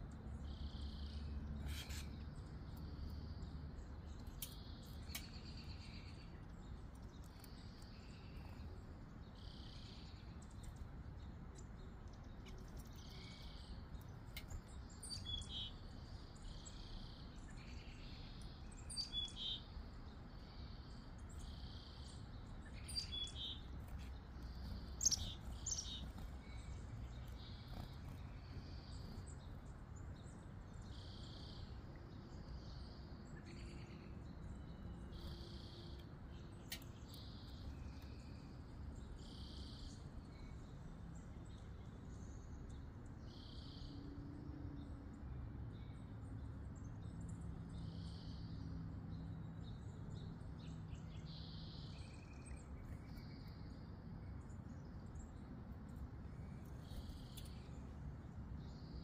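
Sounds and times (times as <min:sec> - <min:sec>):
songbird chirps: 0:00.0 - 0:59.0.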